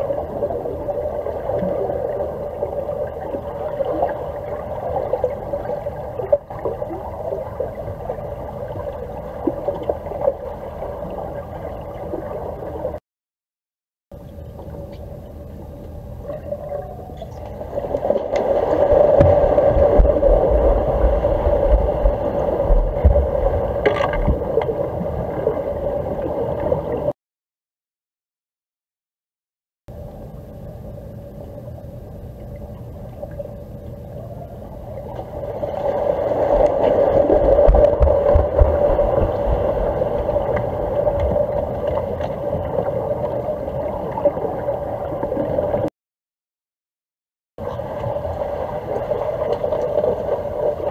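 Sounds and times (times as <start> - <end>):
low underwater rumbling: 0.0 - 13.0, 14.2 - 27.2, 29.9 - 45.9
underwater hum: 0.0 - 13.0, 14.1 - 27.2, 29.9 - 45.9, 47.6 - 50.9
water gurgling: 0.0 - 13.0, 14.4 - 27.2, 30.0 - 45.9, 47.6 - 50.9.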